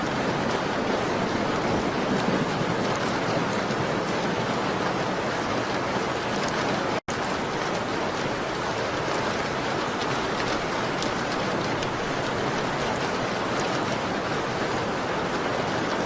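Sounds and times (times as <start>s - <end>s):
rain pattering on a window: 0.0s - 16.0s.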